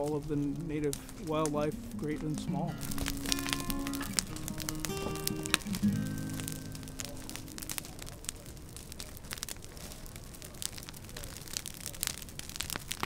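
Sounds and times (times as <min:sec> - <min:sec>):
fire crackling and popping: 0:00.0 - 0:13.0
fire hissing: 0:00.0 - 0:13.0.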